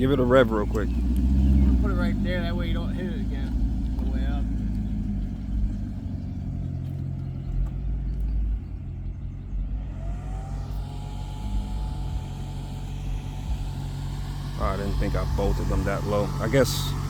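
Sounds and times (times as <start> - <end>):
car engine exhaust rumble: 0.0 - 17.0
higher tone over engine: 0.0 - 17.0.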